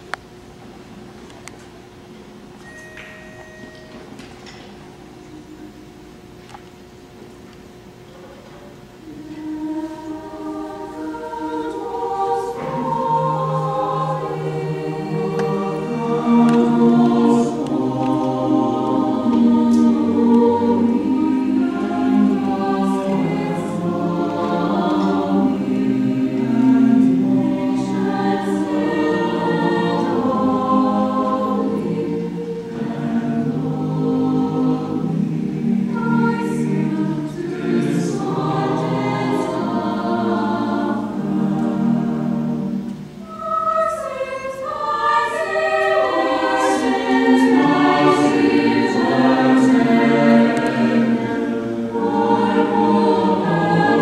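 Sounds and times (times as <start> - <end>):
children's choir singing in harmony: 8.5 - 54.0.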